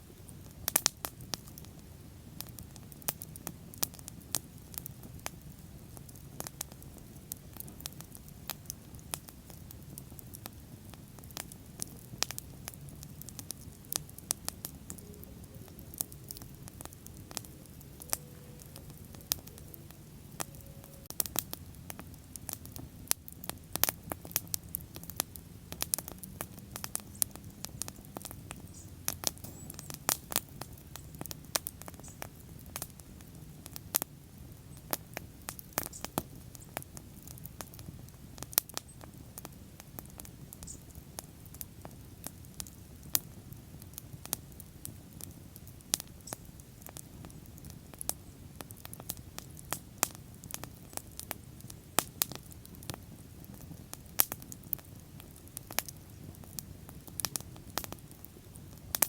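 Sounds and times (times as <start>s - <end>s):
bonfire crackling and popping: 0.0s - 59.0s
low rumble of flames: 0.0s - 59.0s.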